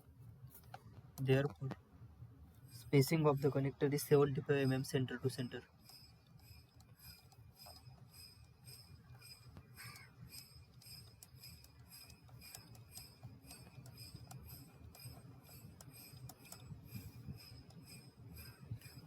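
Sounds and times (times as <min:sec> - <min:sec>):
low background hum: 0:00.0 - 0:19.0
faint regular ticking: 0:00.4 - 0:01.8, 0:02.5 - 0:19.0.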